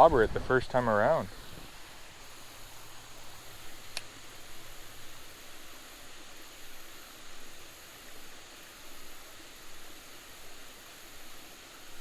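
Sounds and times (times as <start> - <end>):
water running over waterfall: 0.0 - 12.0.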